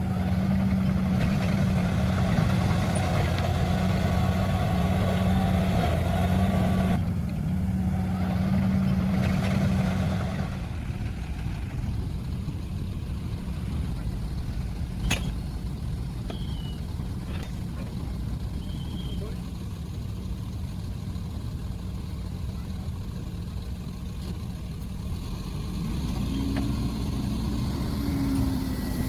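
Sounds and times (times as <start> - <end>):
diesel machinery engine running: 0.0 - 29.0.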